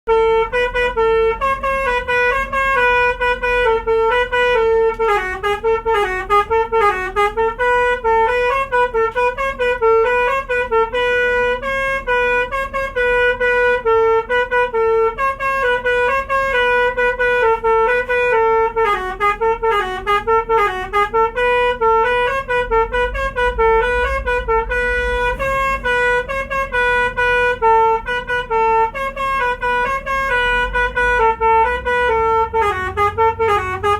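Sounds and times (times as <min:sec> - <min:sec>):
bus horn playing melody: 0:00.0 - 0:33.9.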